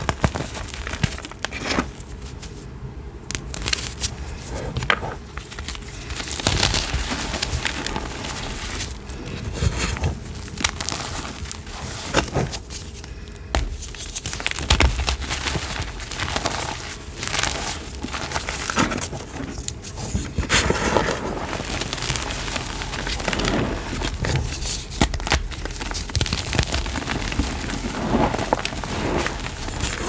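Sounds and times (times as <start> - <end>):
chalk blocks crunching: 3.3 - 30.0.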